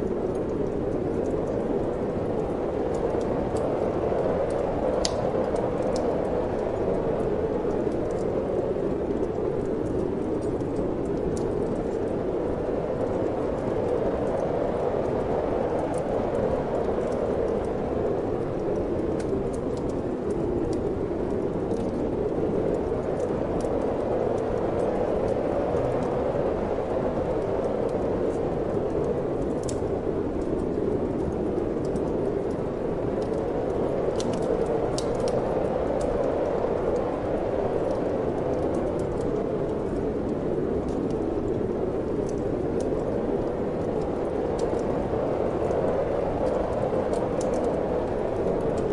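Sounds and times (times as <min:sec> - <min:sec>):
steady wind rush: 0:00.0 - 0:48.9
wood fire crackling: 0:00.0 - 0:48.9.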